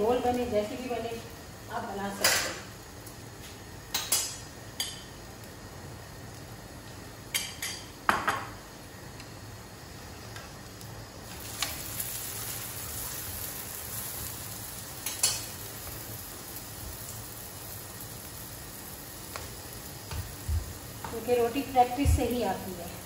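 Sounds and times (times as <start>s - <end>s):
food sizzling in pan: 0.0s - 23.0s.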